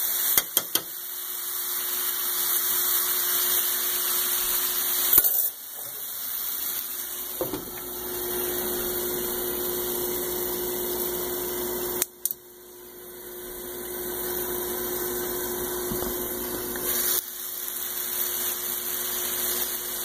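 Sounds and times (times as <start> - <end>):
stir-fry hissing in covered pan: 0.0 - 20.0.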